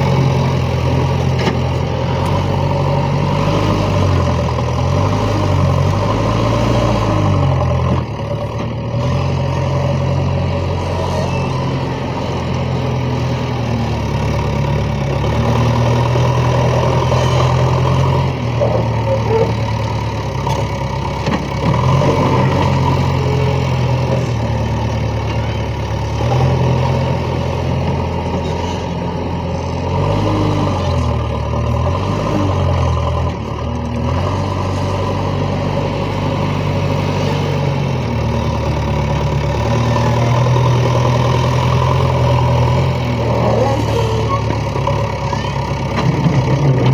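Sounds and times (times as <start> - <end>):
backhoe diesel engine under load: 0.0 - 46.9.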